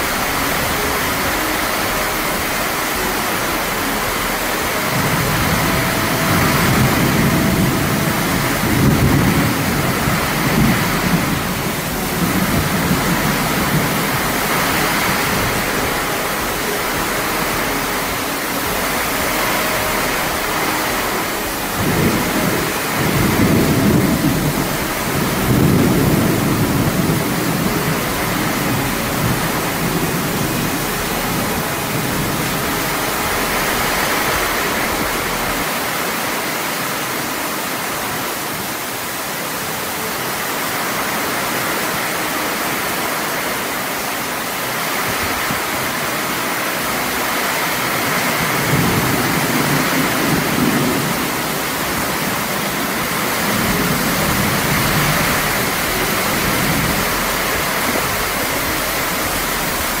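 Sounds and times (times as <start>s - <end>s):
heavy rain pouring: 0.0s - 60.0s.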